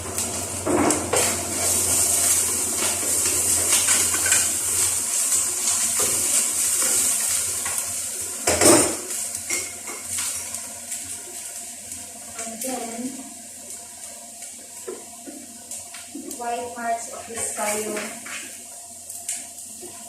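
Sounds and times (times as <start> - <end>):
garlic sizzling in oil: 0.0 - 20.0.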